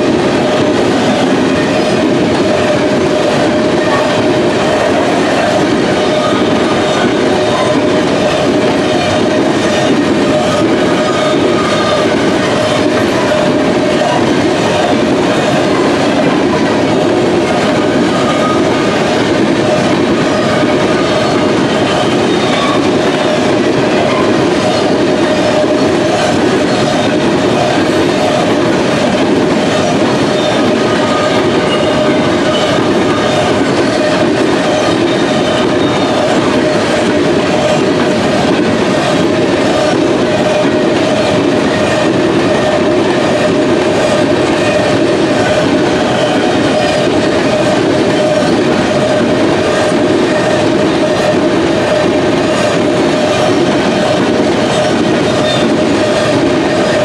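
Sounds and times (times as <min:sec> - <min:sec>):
clickety-clack over rail joints: 0:00.0 - 0:57.0
freight train wheels rumbling: 0:00.0 - 0:57.0
steady ringing tone: 0:00.0 - 0:57.0.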